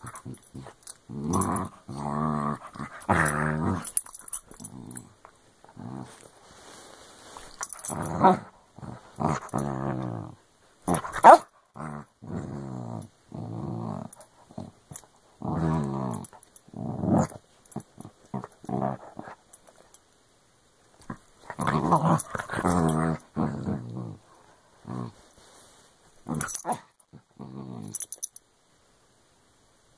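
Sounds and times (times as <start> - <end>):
dog play-growling: 0.0 - 6.4, 7.3 - 19.8, 21.0 - 25.3, 26.2 - 28.2.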